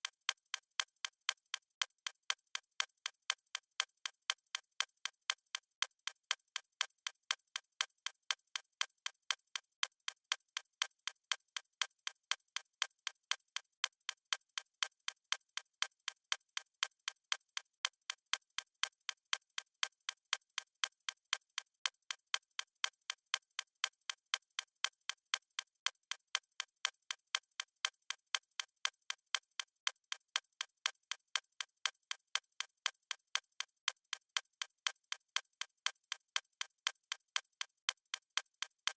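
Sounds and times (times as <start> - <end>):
fast stopwatch ticking: 0.0 - 38.9.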